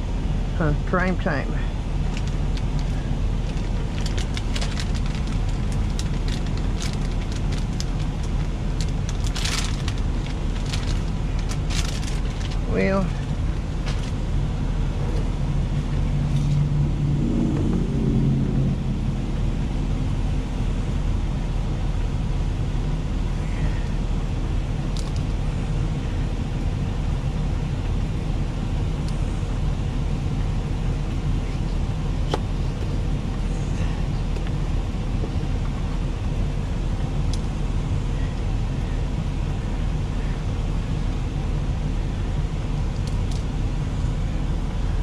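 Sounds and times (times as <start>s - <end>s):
truck diesel engine idling: 0.0s - 45.0s.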